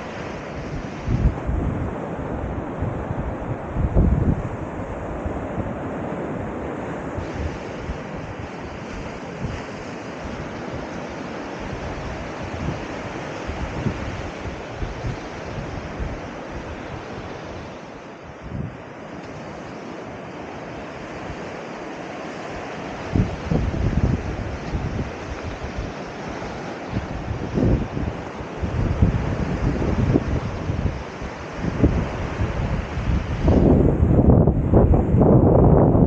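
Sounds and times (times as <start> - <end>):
sea surf washing ashore: 0.0 - 36.0
wind buffeting microphone: 0.0 - 36.0.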